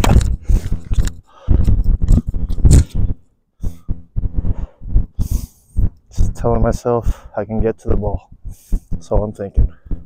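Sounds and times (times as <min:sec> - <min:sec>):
low rumble on microphone: 0:00.0 - 0:10.0.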